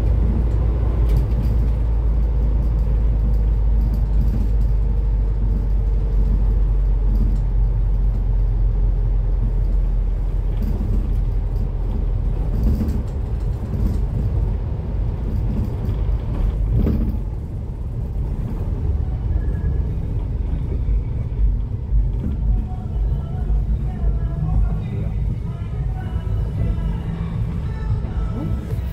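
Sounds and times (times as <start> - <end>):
bus engine rumbling: 0.0 - 28.9.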